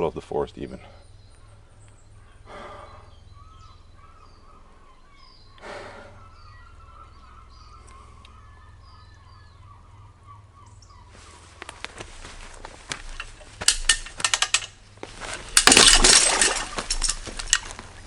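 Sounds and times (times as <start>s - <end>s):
small birds chirping faintly: 0.0s - 18.0s.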